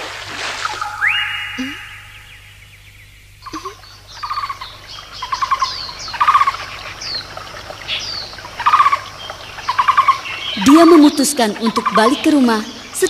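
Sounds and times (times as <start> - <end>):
birds trilling and chirping: 0.6 - 13.0.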